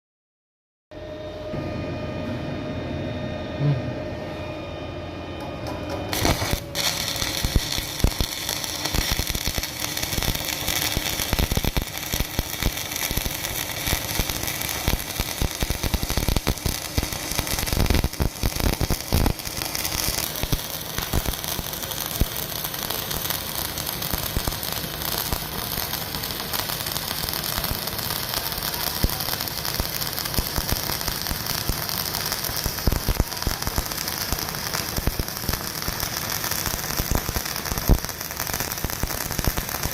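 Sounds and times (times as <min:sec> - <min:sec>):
steady humming tones: 0:01.0 - 0:39.9
welding arc crackling: 0:05.6 - 0:39.9.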